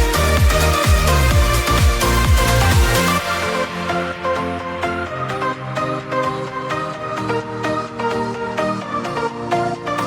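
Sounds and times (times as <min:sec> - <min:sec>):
electronic music with synth: 0:00.0 - 0:10.0.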